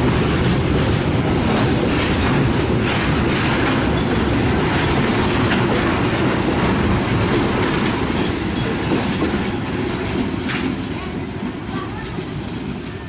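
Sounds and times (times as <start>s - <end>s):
train rumble: 0.0s - 13.0s
train wheels clattering on rails: 0.0s - 13.0s.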